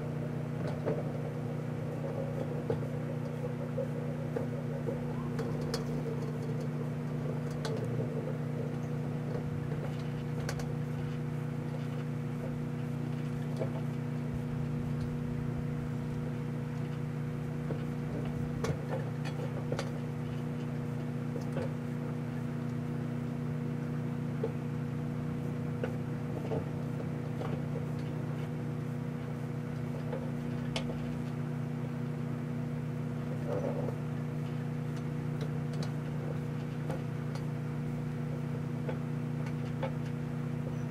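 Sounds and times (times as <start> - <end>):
microwave oven humming: 0.0 - 40.9.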